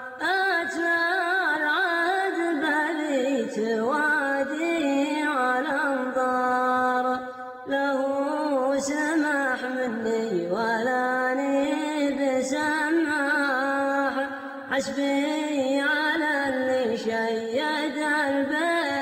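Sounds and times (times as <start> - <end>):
solo voice singing chant-like melody: 0.0 - 19.0.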